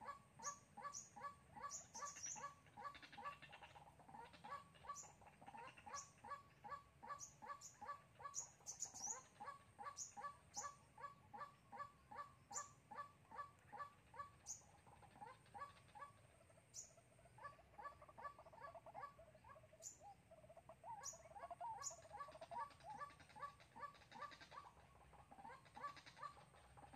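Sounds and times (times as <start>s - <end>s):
small bird chirps: 0.0s - 26.9s
waterhen calling: 0.0s - 26.9s.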